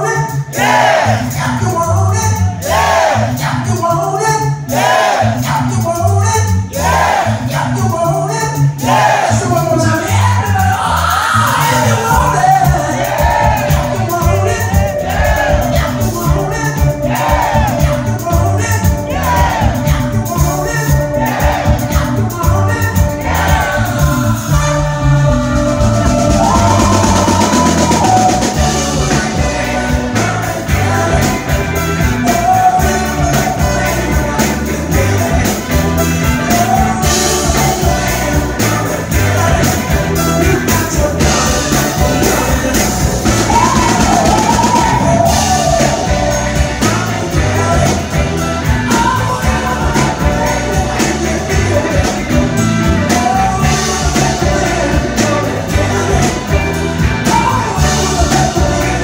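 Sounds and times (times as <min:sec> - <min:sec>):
bass: 0:00.0 - 0:59.0
drums with steady beat: 0:00.0 - 0:59.0
man singing: 0:00.0 - 0:59.0
electric guitar: 0:10.1 - 0:59.0.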